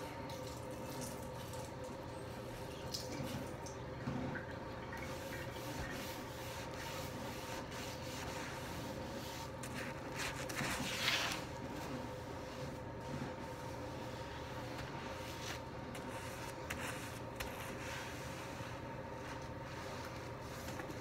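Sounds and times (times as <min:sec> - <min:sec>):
sponge wiping countertop: 0:00.0 - 0:21.0.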